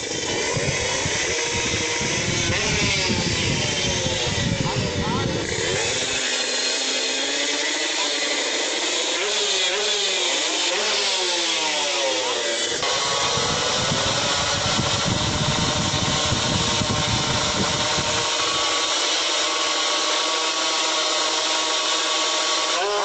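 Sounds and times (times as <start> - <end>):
motorcycle engines revving: 0.0 - 20.4.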